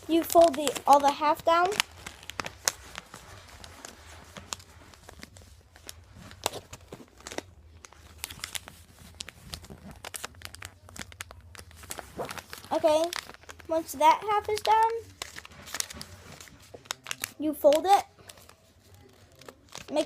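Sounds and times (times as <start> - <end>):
paper crinkling and creasing: 0.0 - 20.0.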